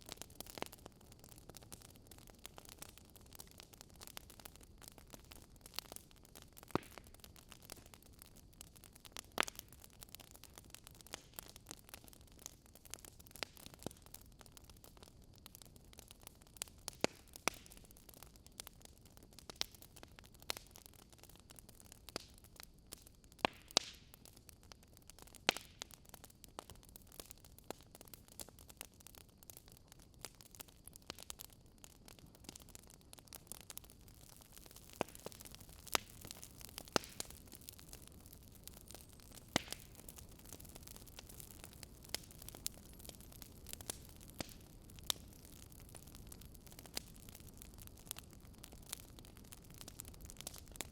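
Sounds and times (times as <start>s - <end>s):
logs crackling in a fireplace: 0.0s - 50.9s.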